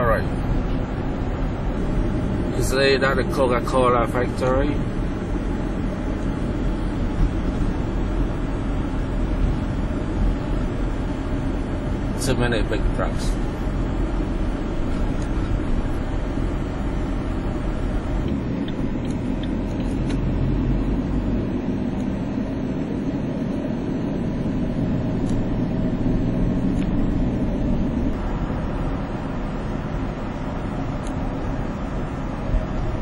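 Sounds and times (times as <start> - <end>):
heavy trucks running: 0.0 - 33.0
highway traffic rumble: 0.0 - 33.0.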